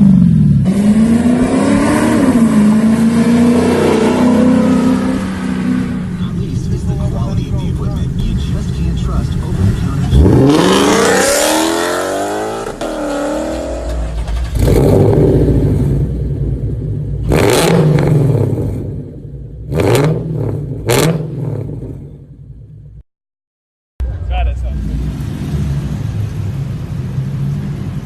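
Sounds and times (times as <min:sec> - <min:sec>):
car engine revving: 0:00.0 - 0:22.4, 0:24.0 - 0:28.0.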